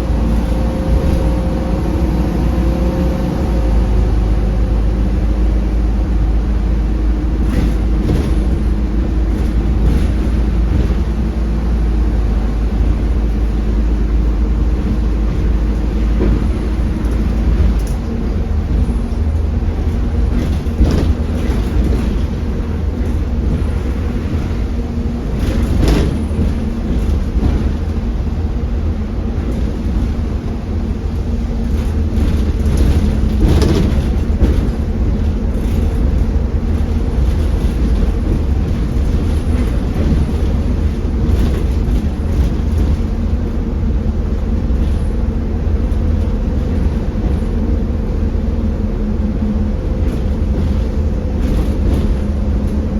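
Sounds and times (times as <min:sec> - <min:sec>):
road rumble: 0:00.0 - 0:52.9.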